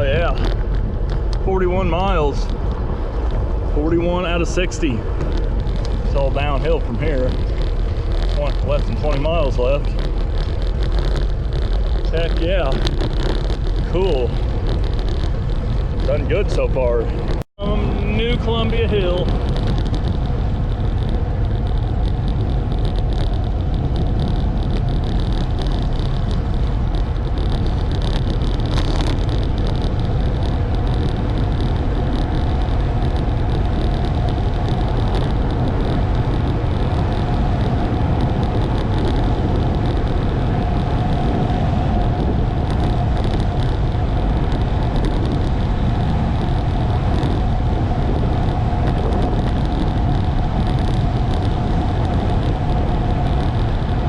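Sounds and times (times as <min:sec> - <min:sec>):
bike tyre hum on pavement: 0:00.0 - 0:54.0
wind rush on microphone: 0:00.0 - 0:54.0.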